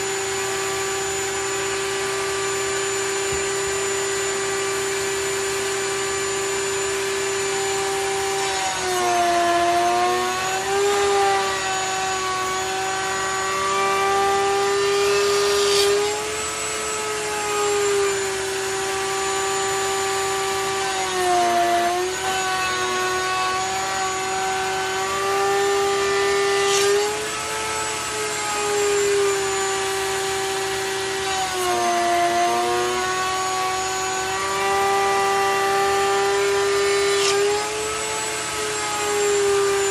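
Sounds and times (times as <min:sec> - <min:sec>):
power tool motor running: 0:00.0 - 0:39.9
scratchy cutting noises: 0:07.5 - 0:39.9.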